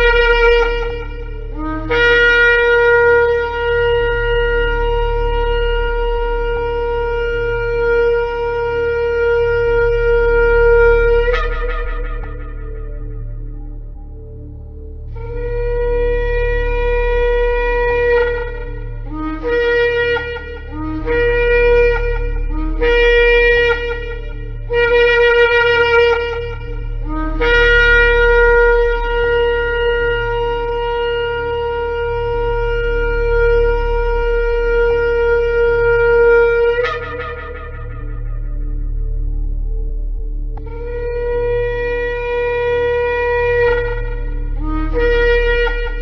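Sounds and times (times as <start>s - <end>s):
ram's horn blasts: 0.0s - 46.0s.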